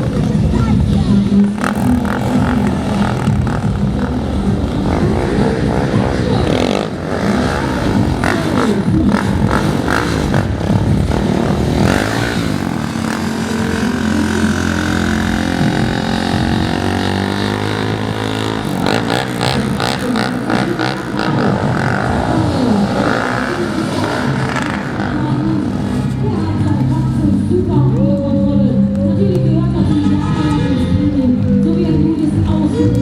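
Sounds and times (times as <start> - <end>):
vehicle engine revving: 0.0 - 28.0.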